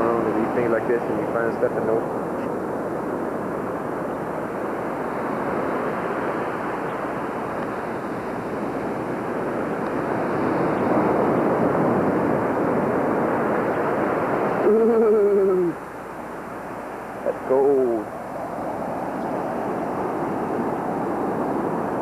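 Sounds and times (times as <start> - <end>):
ocean surf washing up: 0.0 - 22.0.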